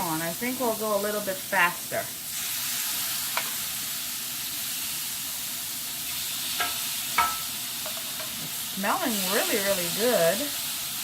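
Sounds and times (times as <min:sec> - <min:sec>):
squid sizzling on a grill: 0:00.0 - 0:11.0.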